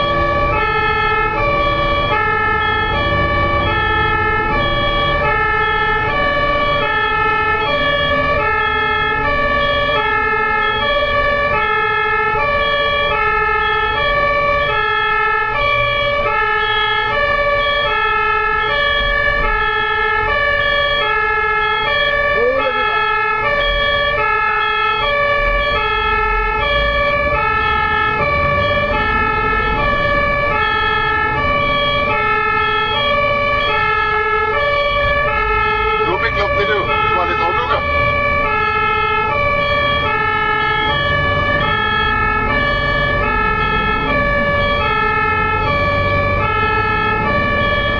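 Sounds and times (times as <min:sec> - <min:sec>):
low traffic rumble: 0:00.0 - 0:47.9
two-tone ambulance siren: 0:00.0 - 0:47.9.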